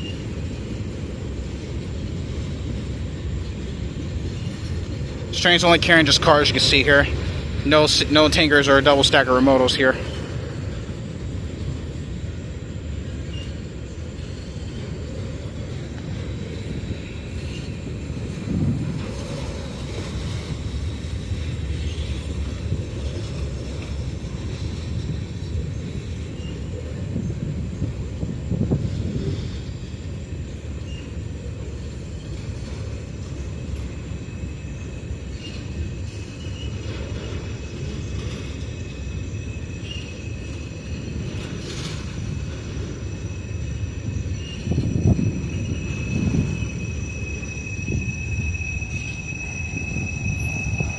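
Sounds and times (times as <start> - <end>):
freight train wheels on rail: 0.0 - 50.9.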